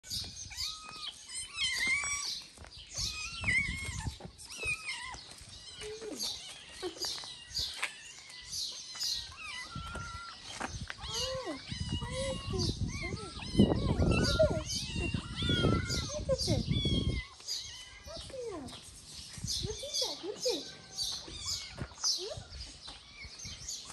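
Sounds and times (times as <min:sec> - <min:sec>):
kittens meowing: 0:00.1 - 0:18.7, 0:19.6 - 0:23.9.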